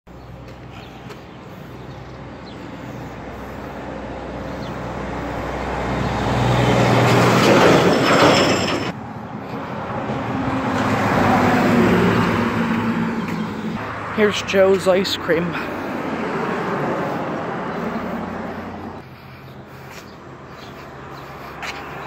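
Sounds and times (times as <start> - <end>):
vehicle approaching: 0.1 - 22.0
heavy truck passing: 0.2 - 22.0.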